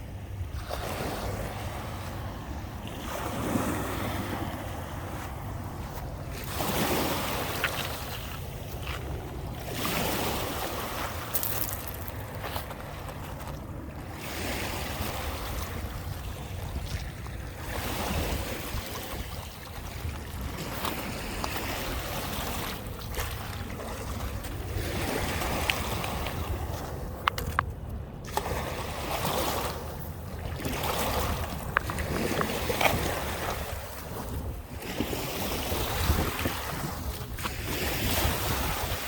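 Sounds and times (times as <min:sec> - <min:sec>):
small waves washing onto beach: 0:00.0 - 0:39.0
wind on microphone: 0:00.0 - 0:39.0.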